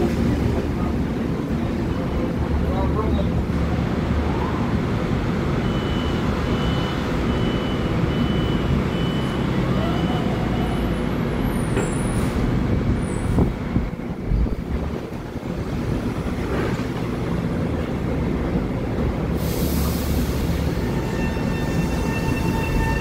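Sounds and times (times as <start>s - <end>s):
electric train rumble and hum: 0.0s - 23.0s.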